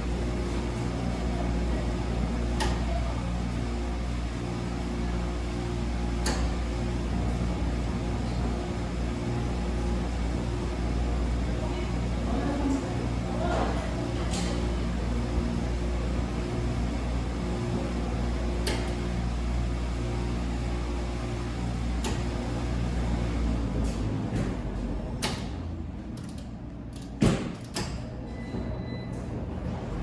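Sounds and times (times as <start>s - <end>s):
washing machine humming: 0.0s - 30.0s.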